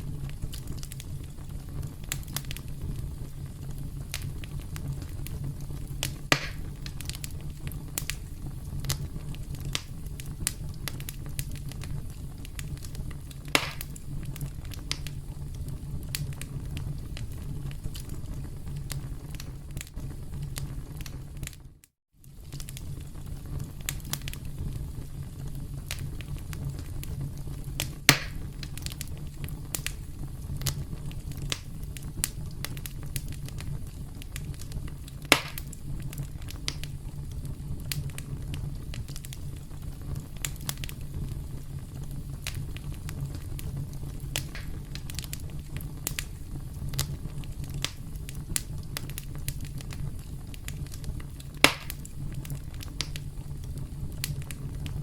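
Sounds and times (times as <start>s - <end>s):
campfire crackling: 0.0s - 55.0s
fire snaps and pops: 0.0s - 55.0s.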